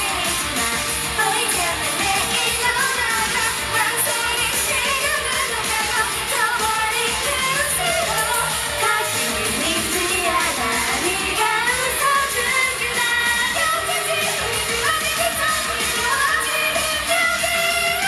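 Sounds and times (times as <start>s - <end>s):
pop music drum beat: 0.0s - 18.0s
woman singing: 0.0s - 18.0s.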